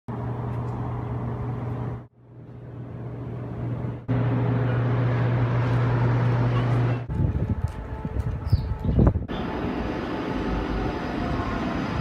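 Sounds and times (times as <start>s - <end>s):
vehicle rumble with low hum: 0.1s - 10.8s.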